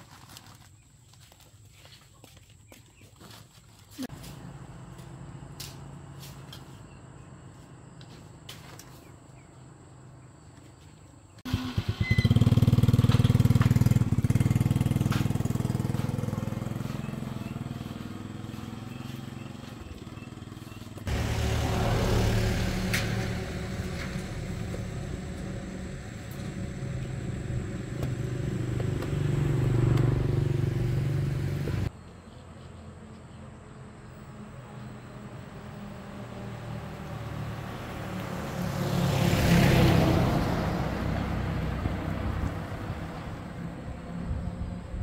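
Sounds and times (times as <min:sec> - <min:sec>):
vehicles passing on road: 0:04.0 - 0:45.0.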